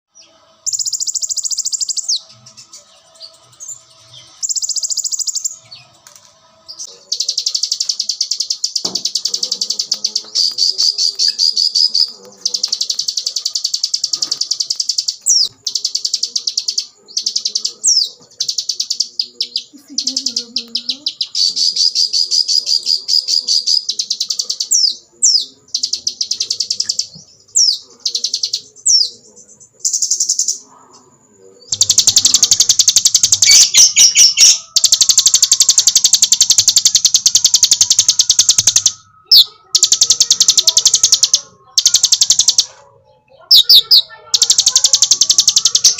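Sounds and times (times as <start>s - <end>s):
songbird trilling: 0.6s - 5.8s, 6.8s - 30.6s, 31.6s - 42.9s, 43.5s - 45.9s.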